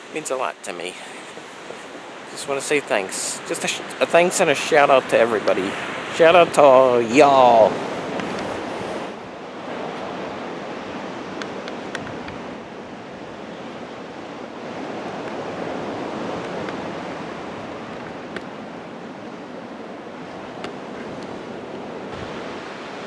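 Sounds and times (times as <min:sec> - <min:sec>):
ocean waves washing on beach: 0:00.0 - 0:23.0.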